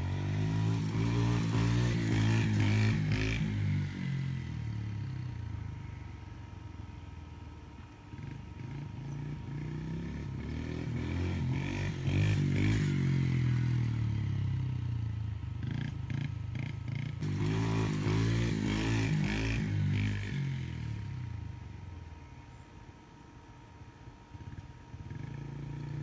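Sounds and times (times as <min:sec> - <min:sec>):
dirt bike engine: 0:00.0 - 0:26.0.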